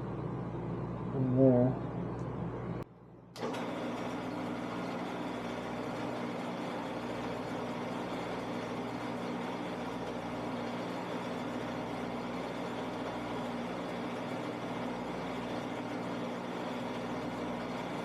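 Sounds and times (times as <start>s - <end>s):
lathe motor humming: 3.4s - 18.0s.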